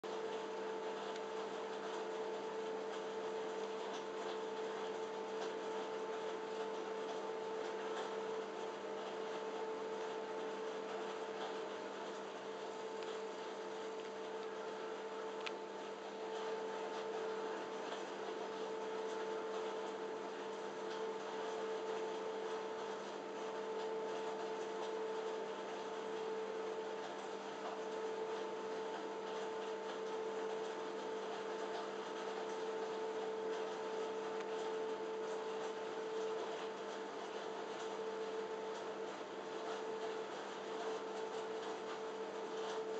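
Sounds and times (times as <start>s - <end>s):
machine hum: 0.0s - 42.9s.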